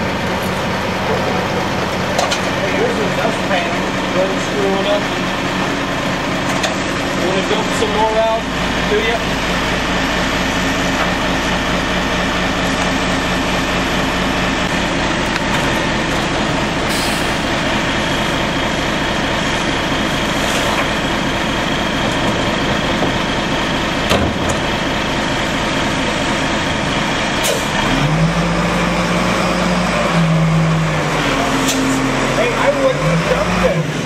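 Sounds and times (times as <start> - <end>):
diesel engine idling and revving: 0.0 - 34.0.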